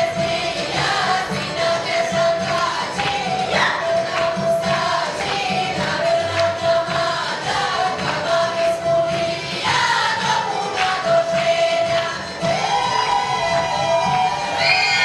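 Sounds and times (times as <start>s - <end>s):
folk dance music: 0.0s - 15.0s
group of voices singing: 0.0s - 15.0s.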